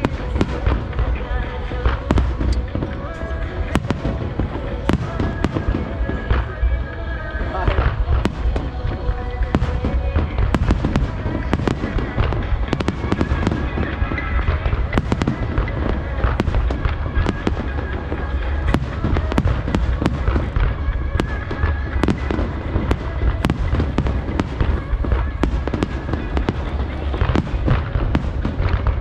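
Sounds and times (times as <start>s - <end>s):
firework bangs and crackles: 0.0s - 29.0s.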